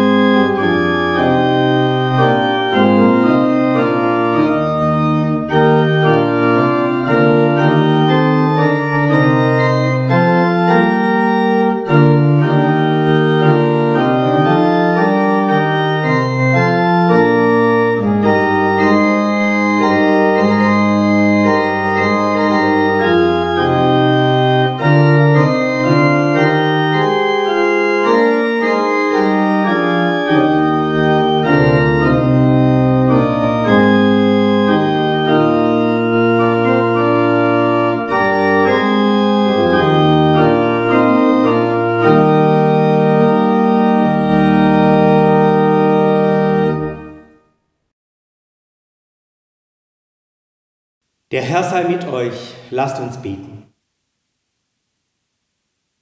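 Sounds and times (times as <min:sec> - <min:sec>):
deep organ pedal bass: 0:00.0 - 0:47.2
pipe organ chords: 0:00.0 - 0:47.4.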